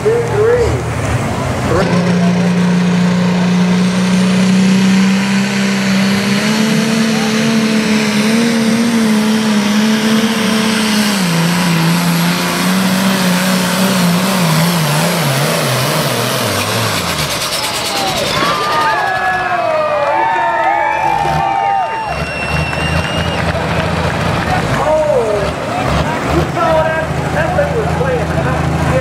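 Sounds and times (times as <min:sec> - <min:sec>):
tractor engine running hard: 0:00.0 - 0:19.7, 0:21.1 - 0:29.0.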